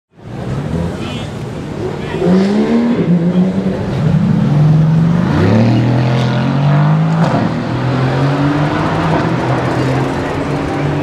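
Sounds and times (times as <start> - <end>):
car engine accelerating hard: 2.2 - 11.0.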